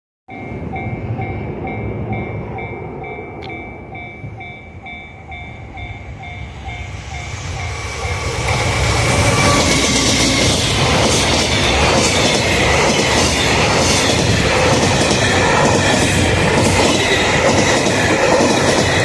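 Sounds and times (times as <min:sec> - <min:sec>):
level-crossing warning bell dinging: 0:00.3 - 0:19.0
train rumble: 0:00.3 - 0:19.0.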